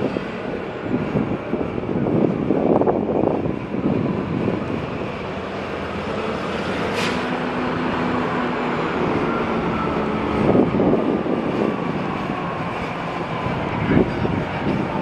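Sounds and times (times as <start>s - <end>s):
diesel locomotive engine droning: 0.0s - 15.0s.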